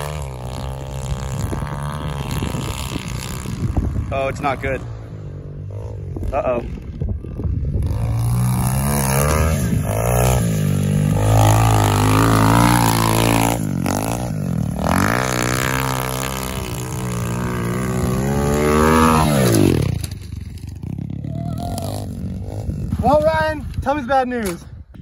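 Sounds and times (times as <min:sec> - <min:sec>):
motorbike engine revving: 0:00.0 - 0:23.3.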